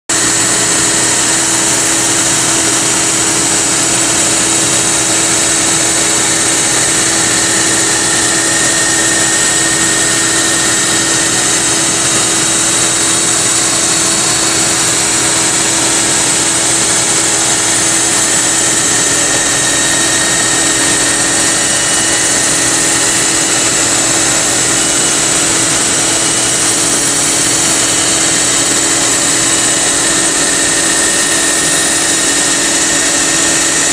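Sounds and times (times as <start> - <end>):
grinding machine grinding metal: 0.1 - 33.9.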